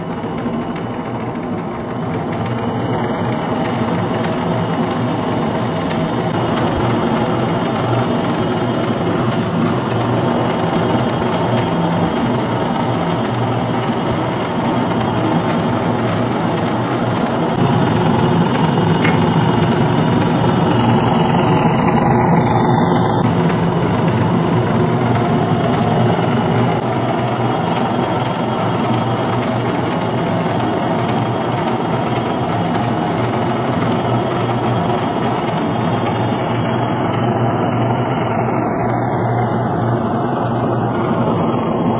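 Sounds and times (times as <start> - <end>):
electric motor and alternator hum: 0.0 - 41.9.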